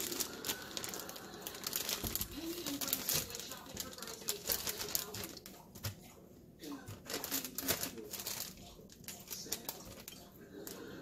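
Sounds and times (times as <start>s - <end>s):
plastic bag crinkling: 0.0s - 6.0s, 6.6s - 11.0s.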